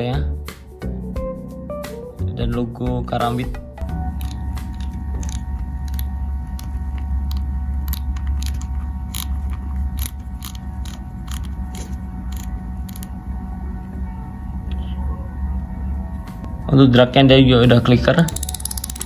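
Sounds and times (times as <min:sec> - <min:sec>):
steady low hum: 0:03.6 - 0:19.0.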